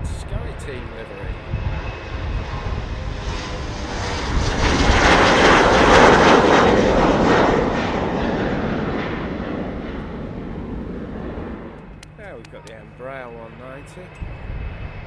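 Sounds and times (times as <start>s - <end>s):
jet passing close by: 0.0s - 15.0s.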